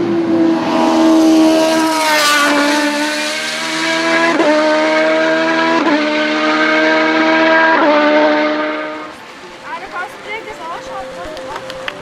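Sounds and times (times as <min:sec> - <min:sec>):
race car engine at high revs: 0:00.0 - 0:09.7.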